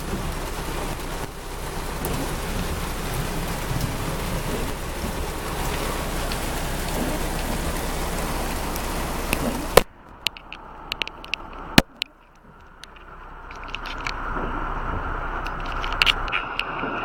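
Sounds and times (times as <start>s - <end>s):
raindrops ticking: 0.0s - 16.8s
heavy rain on car roof: 0.0s - 17.0s.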